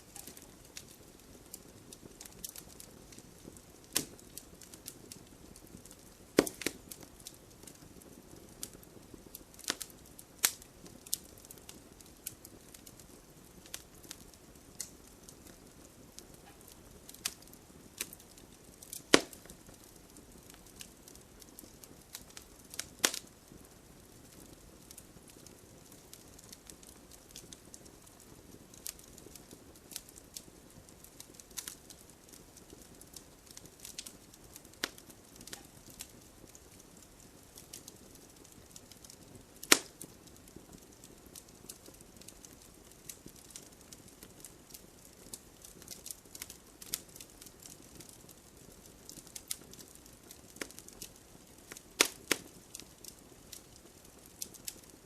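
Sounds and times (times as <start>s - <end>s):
soft steady fire hiss: 0.0s - 55.0s
wood fire crackling and popping: 0.0s - 55.0s.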